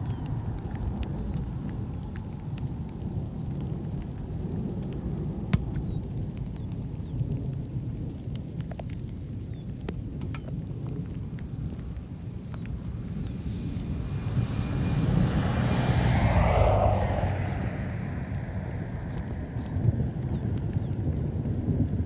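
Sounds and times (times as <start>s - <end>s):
thunderstorm rumble: 0.0s - 22.0s.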